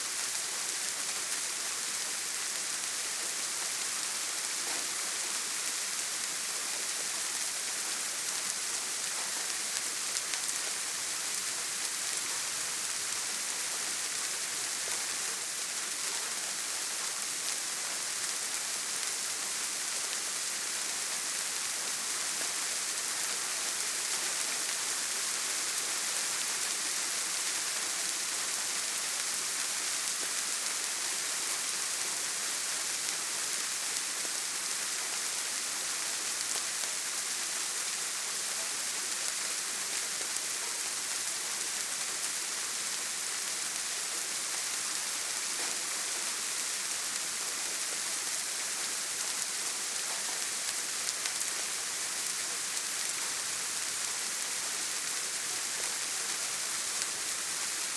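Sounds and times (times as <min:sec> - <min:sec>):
rain on a tin roof: 0:00.0 - 0:57.9.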